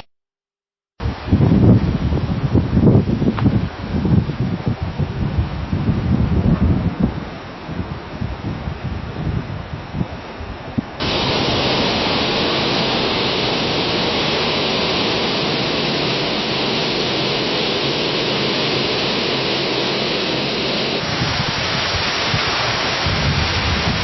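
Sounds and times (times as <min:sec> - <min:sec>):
leaves rustling in strong wind: 0:01.0 - 0:24.0.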